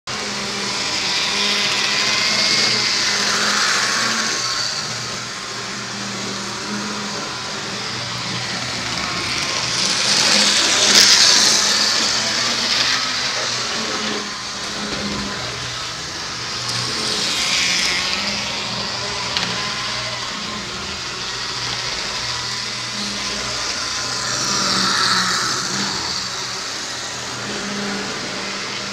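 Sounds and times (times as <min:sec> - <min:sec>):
model train motor whirring: 0:00.1 - 0:28.9.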